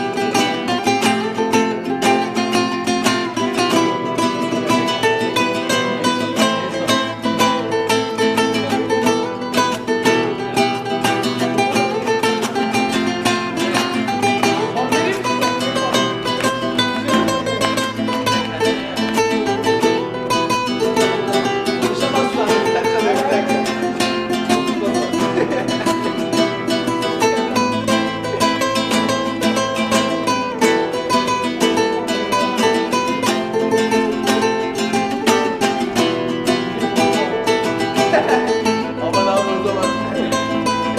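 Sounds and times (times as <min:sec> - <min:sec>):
plucked guitar-like notes: 0:00.0 - 0:40.9.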